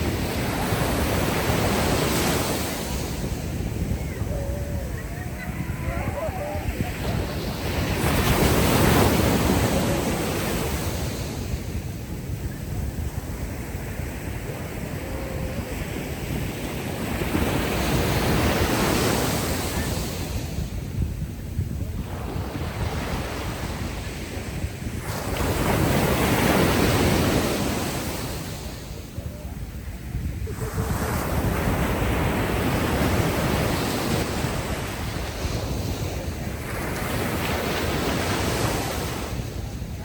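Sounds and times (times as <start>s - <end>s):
ocean waves washing ashore: 0.0s - 40.0s
wind rumble: 0.0s - 40.0s.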